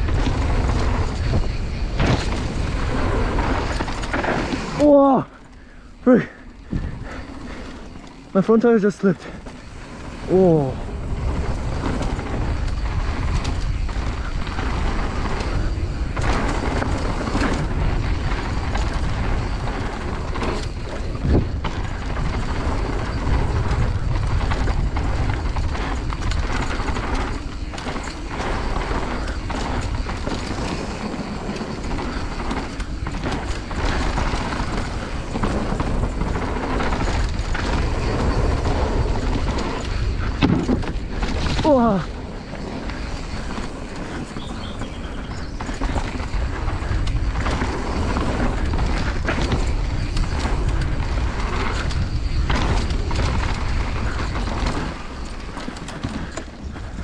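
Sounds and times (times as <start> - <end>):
bike rattling knocks: 0.0 - 57.0
bike tyres rumbling on dirt: 0.0 - 57.0.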